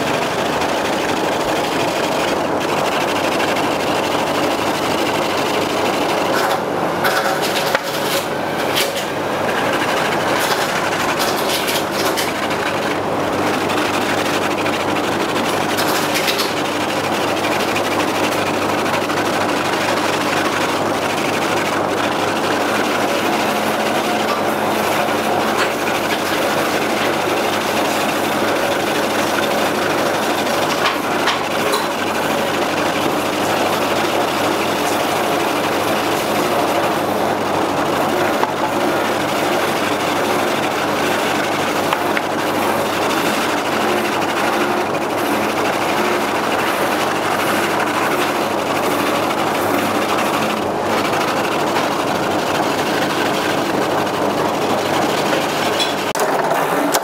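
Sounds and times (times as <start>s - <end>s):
machine running: 0.0s - 57.0s.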